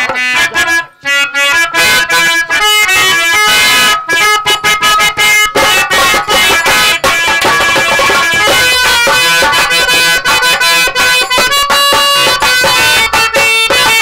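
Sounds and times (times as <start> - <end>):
harmonium melody: 0.0 - 14.0
rapid drum beats: 0.0 - 14.0.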